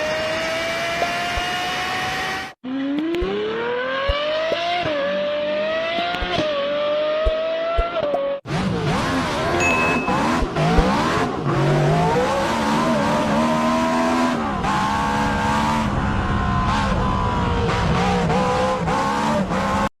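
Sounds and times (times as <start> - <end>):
high-revving car engines: 0.0 - 19.9.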